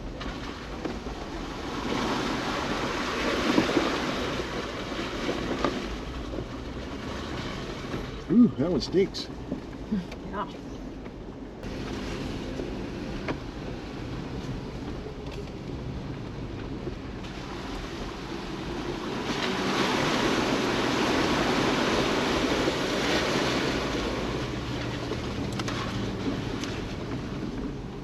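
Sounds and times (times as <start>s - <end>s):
low engine hum: 0.0s - 28.0s
tyre and road noise: 0.0s - 28.0s.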